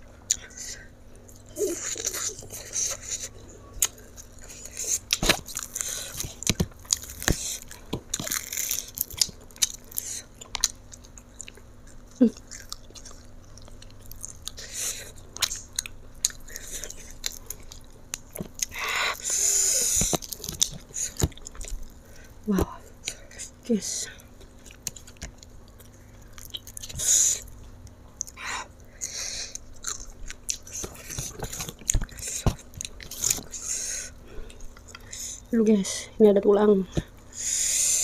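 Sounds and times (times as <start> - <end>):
person chewing with wet smacks: 0.2 - 23.6, 24.3 - 35.4.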